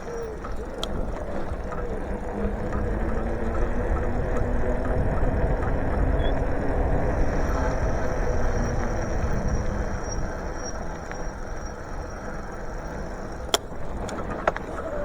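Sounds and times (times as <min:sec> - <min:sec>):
bicycle road noise: 0:00.0 - 0:15.0
wind rumbling on microphone: 0:00.0 - 0:15.0.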